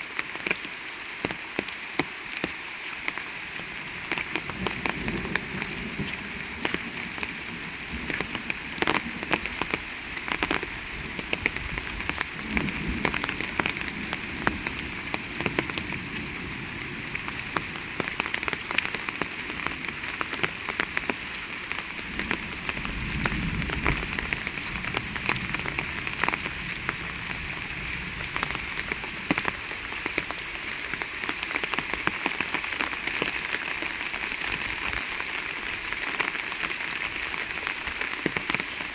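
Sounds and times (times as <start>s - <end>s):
heavy rain falling: 0.0s - 38.9s
raindrops striking close by: 0.0s - 38.9s.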